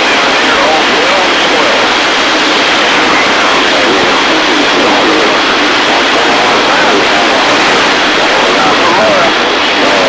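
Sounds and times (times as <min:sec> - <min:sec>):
garbled radio voice: 0:00.0 - 0:10.0
radio static hiss: 0:00.0 - 0:10.0.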